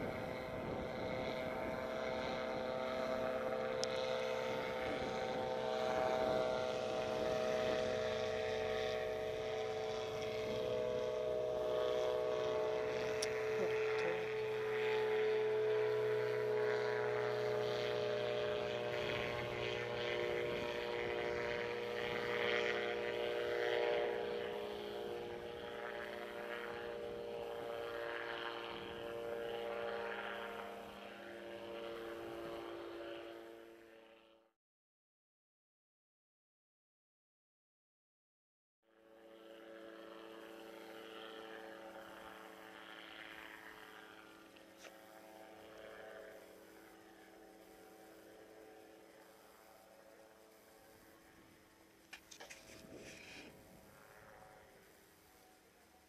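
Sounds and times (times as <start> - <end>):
engine droning: 0.0 - 34.5, 39.0 - 56.0.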